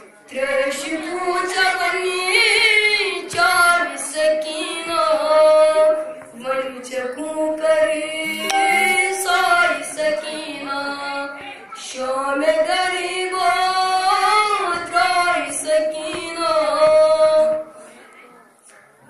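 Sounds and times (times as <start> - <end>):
boy singing a chant: 0.3 - 17.7.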